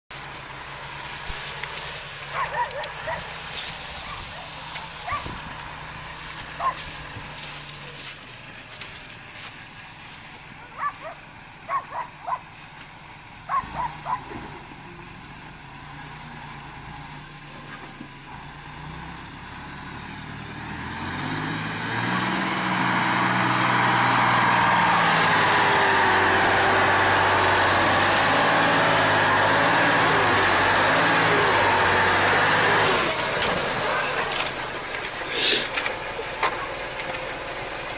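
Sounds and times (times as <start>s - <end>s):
truck engine pulling hard: 0.1s - 37.9s.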